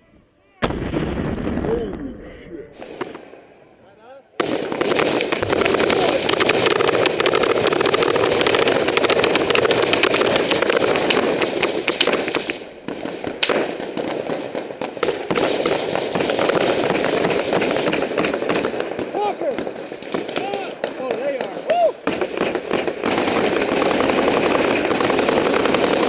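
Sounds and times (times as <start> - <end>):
rapid gunfire: 4.4 - 26.0.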